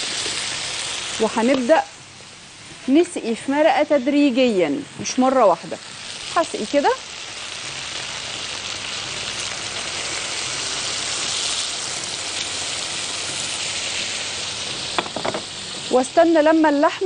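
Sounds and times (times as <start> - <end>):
broth sizzling in hot pan: 0.0 - 17.0.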